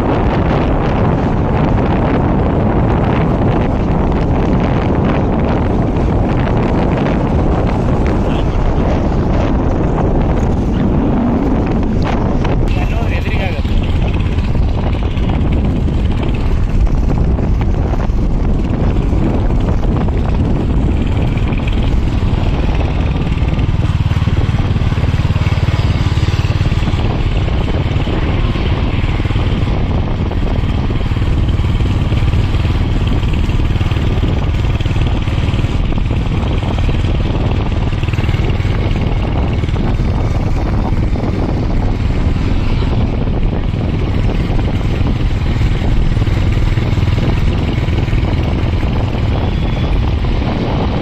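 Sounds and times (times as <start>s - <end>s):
road noise: 0.0s - 51.0s
vehicle engine running: 0.0s - 51.0s.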